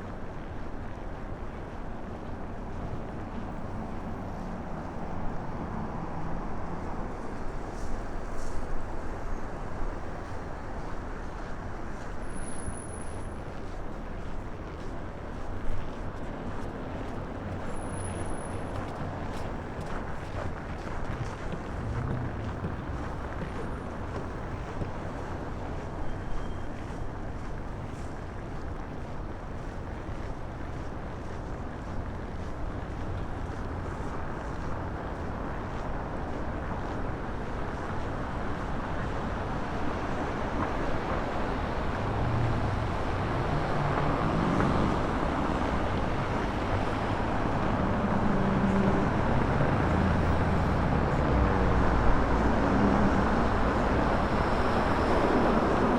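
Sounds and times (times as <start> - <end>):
city traffic rumble: 0.0 - 55.9.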